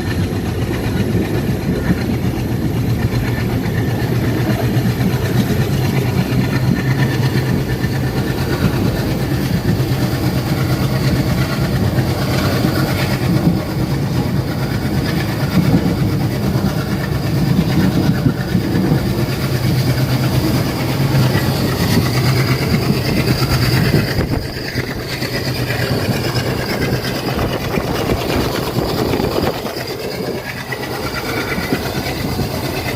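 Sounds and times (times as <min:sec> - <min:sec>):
train wheel clatter: 0:00.0 - 0:32.9.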